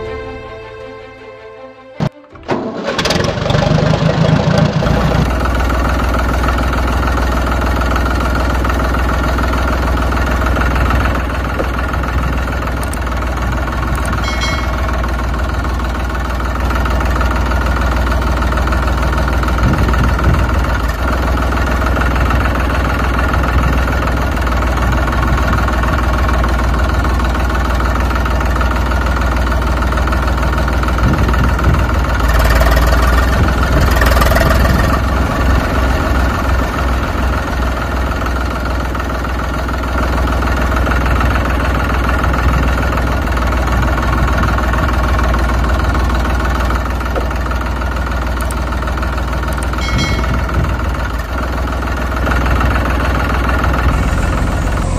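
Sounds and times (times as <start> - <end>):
tractor engine idling: 2.0 - 54.9.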